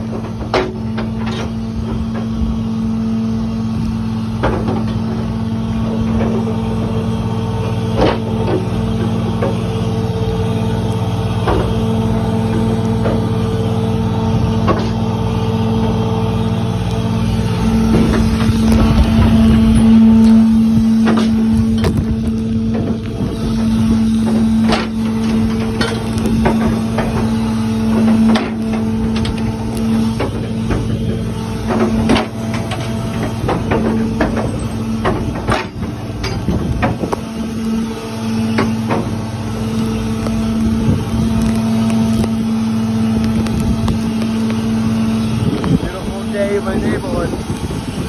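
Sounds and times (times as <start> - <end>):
boat engine humming: 0.0 - 48.0.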